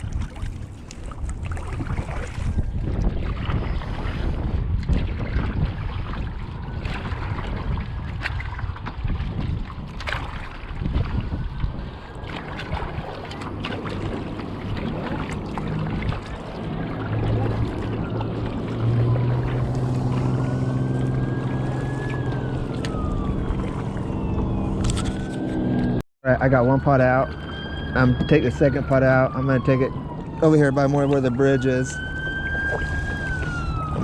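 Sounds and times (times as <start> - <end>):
water splashing: 0.0 - 25.8, 26.4 - 34.0
wind buffeting microphone: 0.0 - 34.0.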